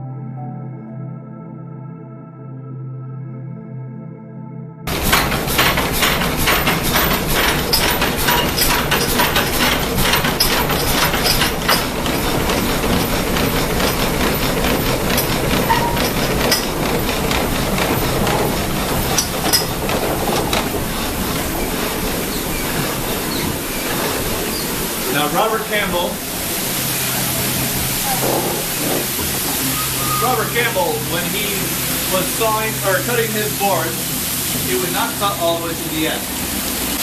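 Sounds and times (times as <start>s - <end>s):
saw rhythmic clatter: 4.9s - 36.3s
water rushing: 4.9s - 37.0s.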